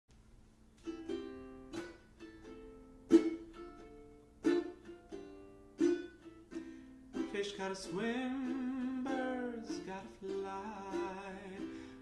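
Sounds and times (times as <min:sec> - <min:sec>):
plucked string chords: 0:00.8 - 0:12.0.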